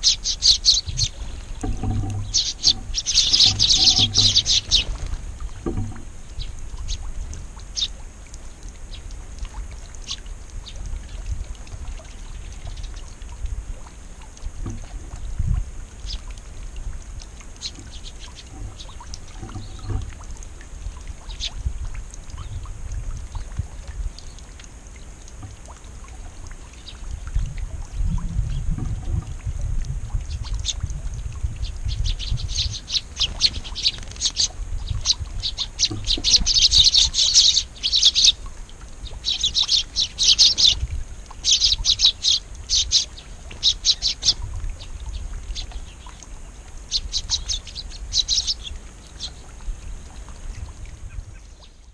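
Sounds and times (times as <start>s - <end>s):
small songbirds chirping: 0.0s - 13.3s, 17.2s - 21.7s, 22.3s - 22.7s, 26.5s - 29.4s, 30.2s - 51.9s.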